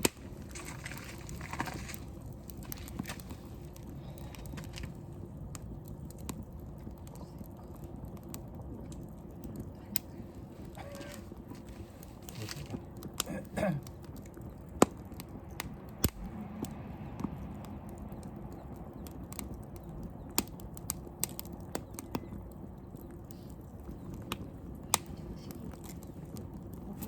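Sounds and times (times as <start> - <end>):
bonfire crackling and popping: 0.0 - 27.0.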